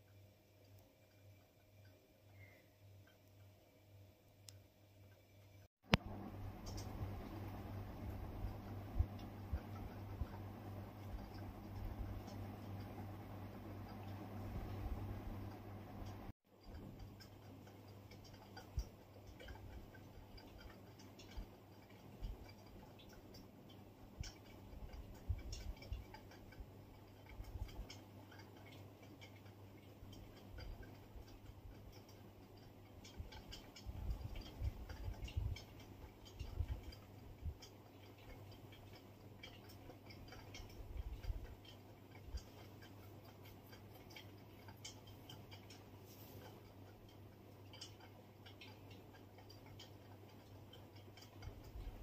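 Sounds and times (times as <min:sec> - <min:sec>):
cat licking and grooming: 0:00.0 - 0:52.0
steady low hum: 0:00.0 - 0:52.0.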